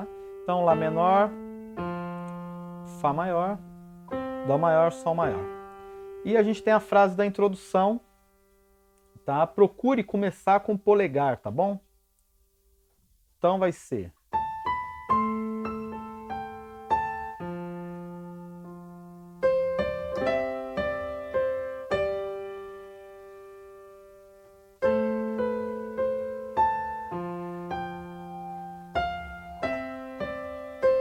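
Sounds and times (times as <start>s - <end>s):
electronic keyboard piano playing: 0.0s - 9.7s, 14.3s - 31.0s.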